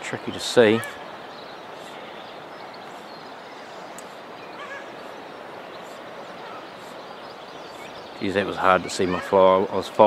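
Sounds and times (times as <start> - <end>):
faint bird chirp: 0.0 - 9.9
stream water rushing: 0.0 - 10.0.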